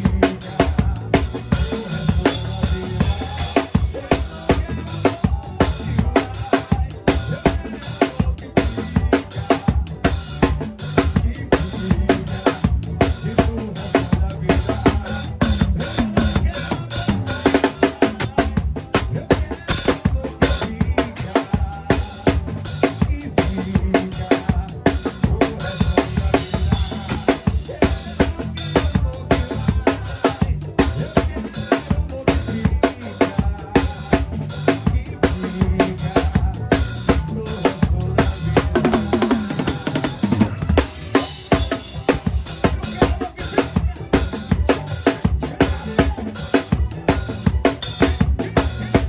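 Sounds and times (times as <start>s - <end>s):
backing track music: 0.0s - 49.0s
drum kit playing: 0.0s - 49.0s.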